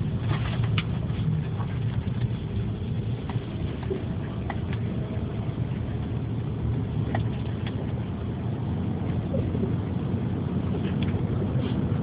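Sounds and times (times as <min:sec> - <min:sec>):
car driving rumble from inside: 0:00.0 - 0:12.0.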